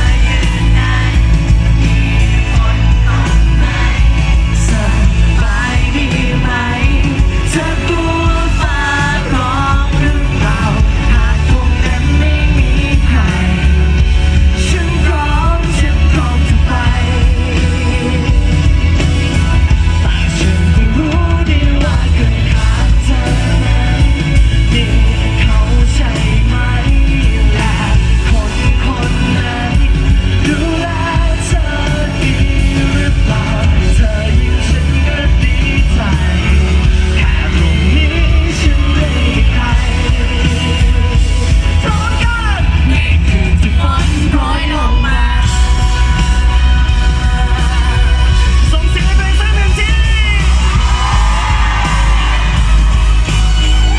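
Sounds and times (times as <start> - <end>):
live rock band: 0.0 - 53.9
person singing: 0.0 - 53.9.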